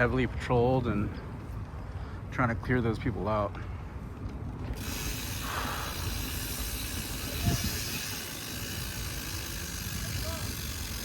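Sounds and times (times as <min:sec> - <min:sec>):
air rush and bike rolling noise: 0:00.0 - 0:11.0.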